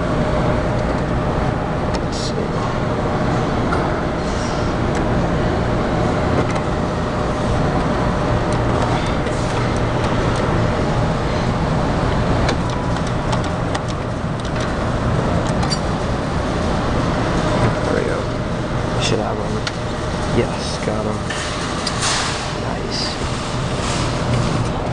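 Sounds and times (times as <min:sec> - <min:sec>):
claw machine mechanical hum: 0:00.0 - 0:24.9.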